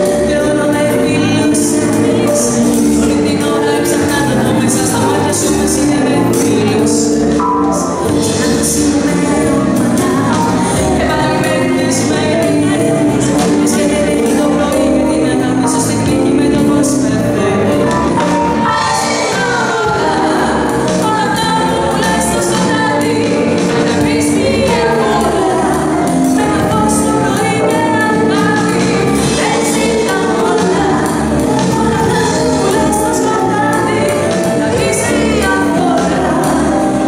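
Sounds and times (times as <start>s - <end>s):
live band playing pop-soul: 0.0s - 37.0s
woman singing: 0.0s - 37.0s.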